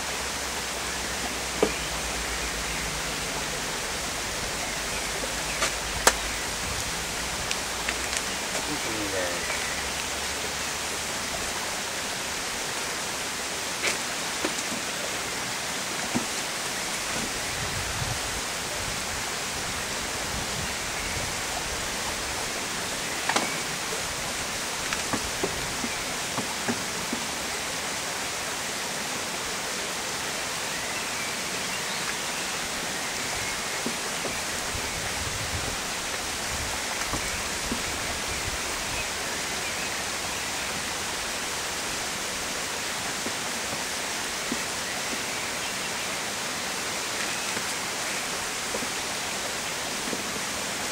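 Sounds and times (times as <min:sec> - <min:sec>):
steady hiss: 0:00.0 - 0:50.9.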